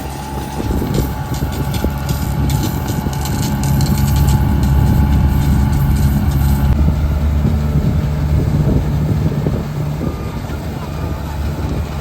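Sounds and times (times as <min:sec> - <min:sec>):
diesel engine humming: 0:00.0 - 0:12.0
machinery rattling: 0:00.0 - 0:12.0.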